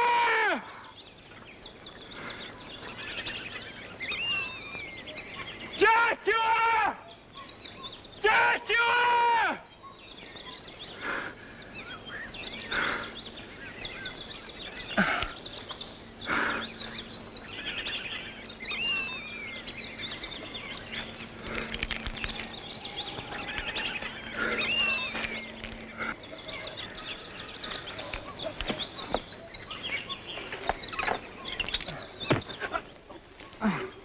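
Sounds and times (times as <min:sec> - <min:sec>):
bird calls and chirps: 0:00.0 - 0:34.0
low steady hum: 0:00.0 - 0:34.0.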